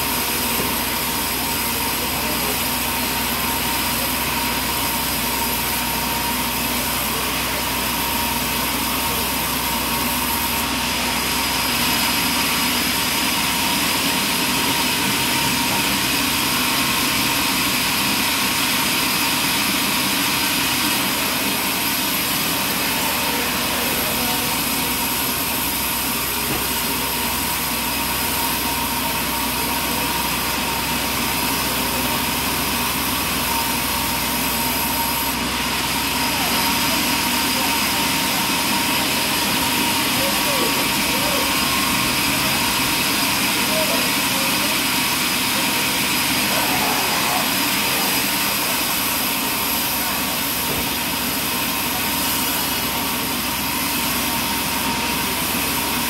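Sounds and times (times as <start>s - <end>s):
high saw whine: 0.0s - 56.0s.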